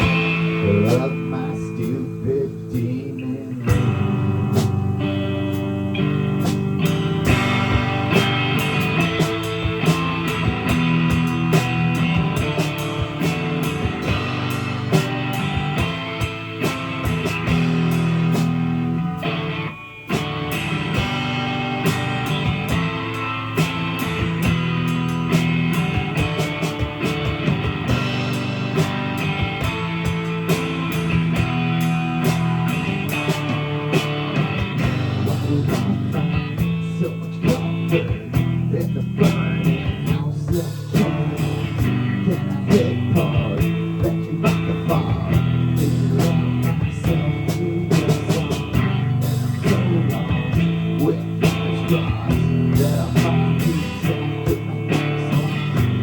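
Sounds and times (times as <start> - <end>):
drum kit: 0.0 - 56.0
electric guitar: 0.0 - 56.0
live rock band playing: 0.0 - 56.0.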